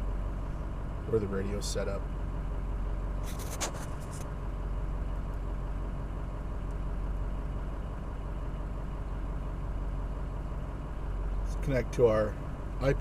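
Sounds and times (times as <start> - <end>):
diesel engine idling: 0.0 - 3.3, 3.9 - 13.0.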